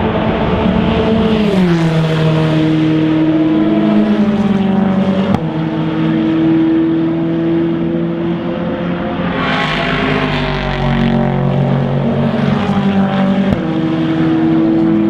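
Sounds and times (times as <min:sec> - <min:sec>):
race car engine: 0:00.0 - 0:15.0.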